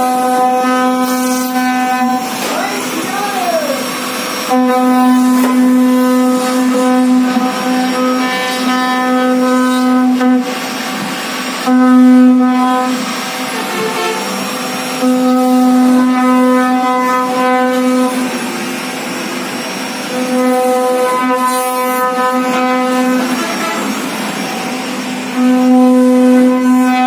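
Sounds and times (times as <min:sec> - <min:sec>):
router spindle motor whine: 0:00.0 - 0:27.0.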